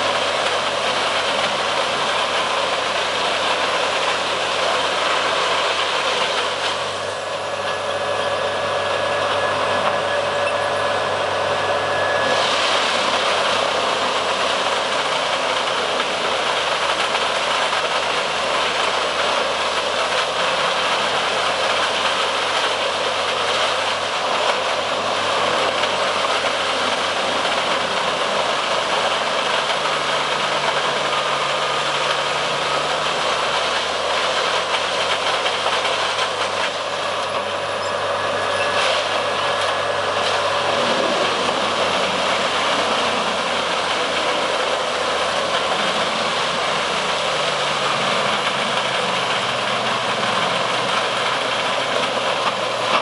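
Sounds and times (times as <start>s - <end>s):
wood chipper running: 0.0s - 53.0s.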